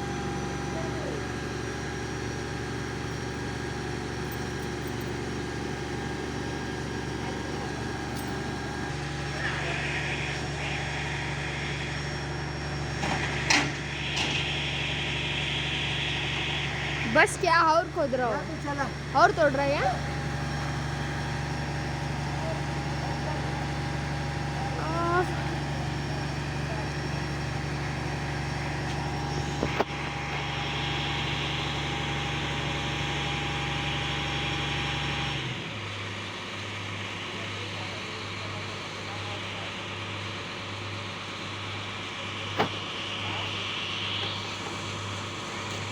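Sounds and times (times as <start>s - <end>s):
digging machine engine running: 0.0s - 45.9s.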